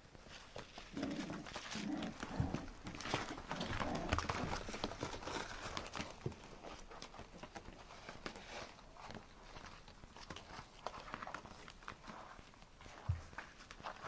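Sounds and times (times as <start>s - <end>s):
puppy claws scrabbling on floor: 0.0s - 14.0s.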